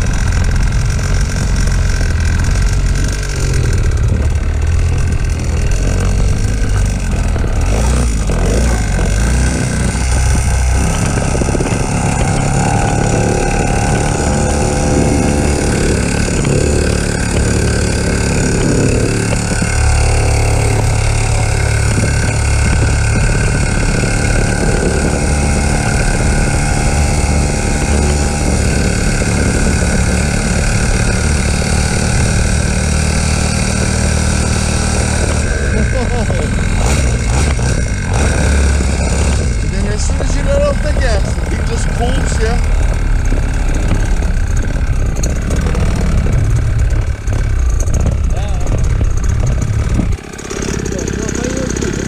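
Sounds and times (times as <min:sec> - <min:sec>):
small motorbike engine running: 0:00.0 - 0:52.0.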